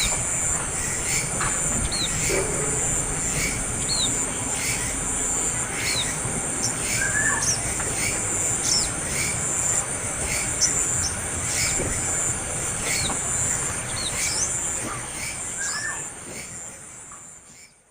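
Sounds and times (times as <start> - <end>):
high-pitched insect drone: 0.0 - 14.7.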